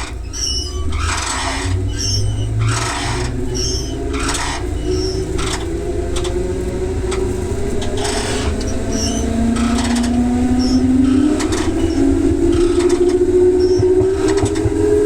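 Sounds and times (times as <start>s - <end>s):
rail joint clicks: 0.0s - 15.0s
train wheels rumbling on rails: 0.0s - 15.0s
electric motor whine: 0.9s - 15.0s.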